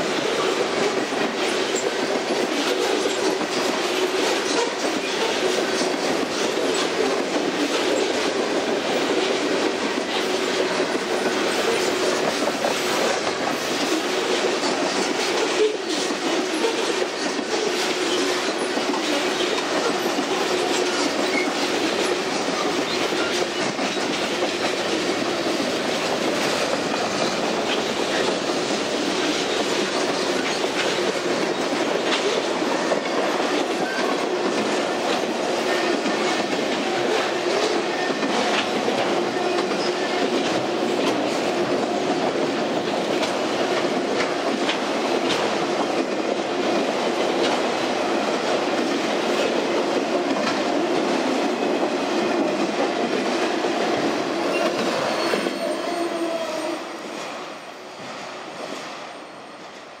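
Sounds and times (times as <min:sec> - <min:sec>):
train wheels rumbling on rails: 0:00.0 - 1:00.0.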